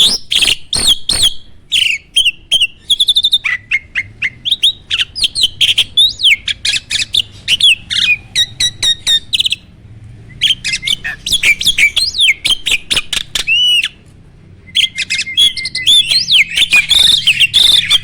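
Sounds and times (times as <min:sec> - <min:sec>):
bird singing whistled notes: 0:00.0 - 0:14.0, 0:14.6 - 0:18.0
bird chattering: 0:00.0 - 0:18.0.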